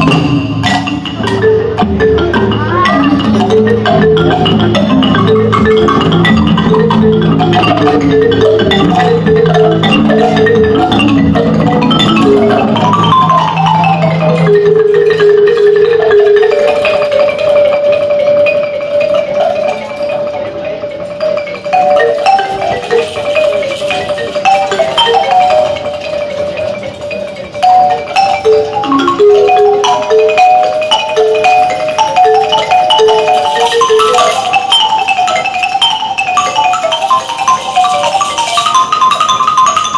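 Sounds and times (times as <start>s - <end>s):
marimba music: 0.0s - 39.9s.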